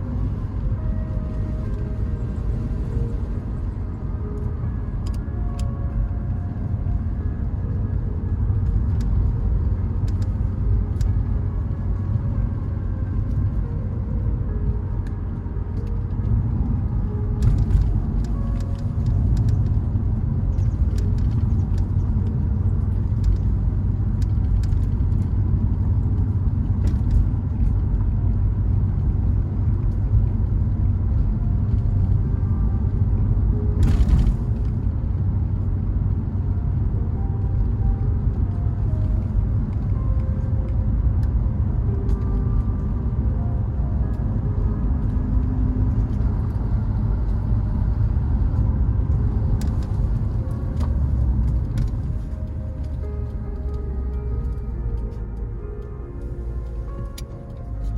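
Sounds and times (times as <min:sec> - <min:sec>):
car driving on rough road: 0:00.0 - 0:57.9.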